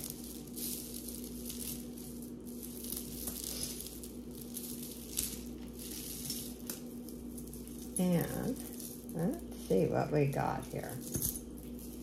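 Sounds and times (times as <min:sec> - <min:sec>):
low electrical hum: 0:00.0 - 0:12.0
room noise hiss: 0:00.0 - 0:12.0.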